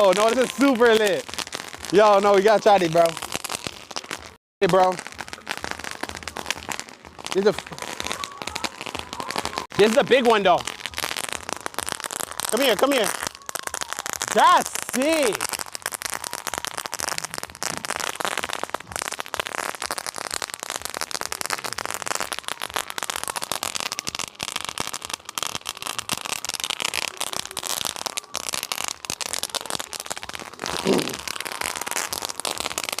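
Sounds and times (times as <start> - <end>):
firework crackling: 0.0 - 33.0.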